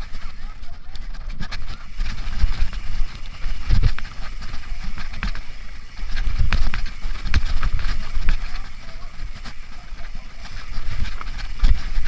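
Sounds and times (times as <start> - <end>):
bike rattling and knocking: 0.0 - 12.0
tyres rolling over rough ground: 0.0 - 12.0
wind buffeting microphone: 0.0 - 12.0.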